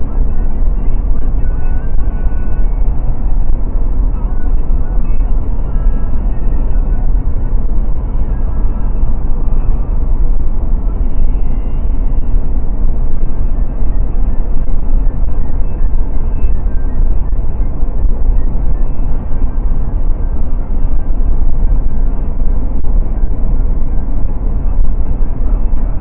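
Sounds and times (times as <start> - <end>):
road and wind noise in car: 0.0 - 26.0.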